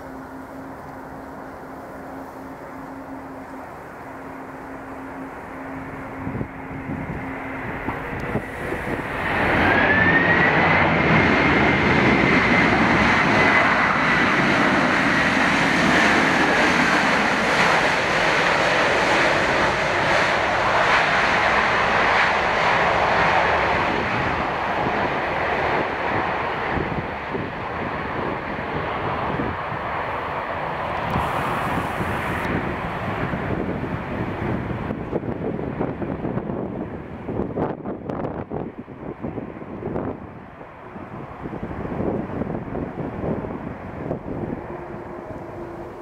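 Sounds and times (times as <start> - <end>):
jet engines reverse thrust: 0.0 - 46.0.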